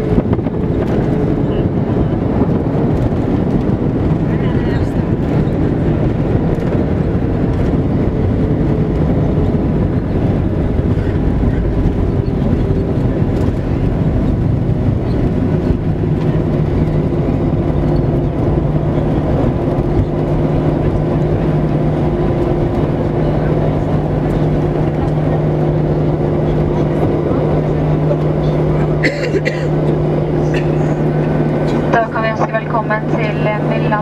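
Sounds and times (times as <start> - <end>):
airplane taxiing rumble: 0.0 - 34.0
faint engine hum: 0.0 - 34.0.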